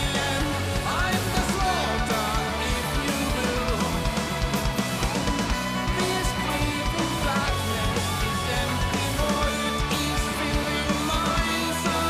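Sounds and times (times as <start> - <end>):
progressive rock band playing: 0.0 - 12.0.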